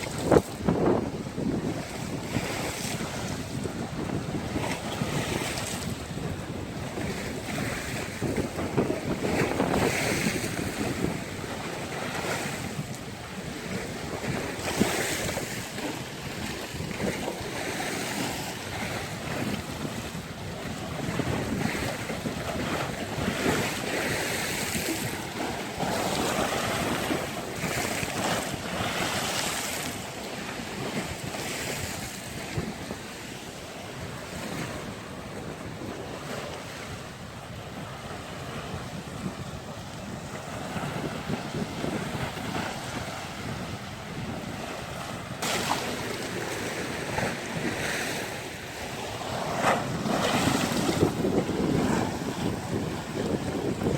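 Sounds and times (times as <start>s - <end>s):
waves washing and slapping: 0.0s - 53.9s
wind buffeting microphone: 0.0s - 53.9s.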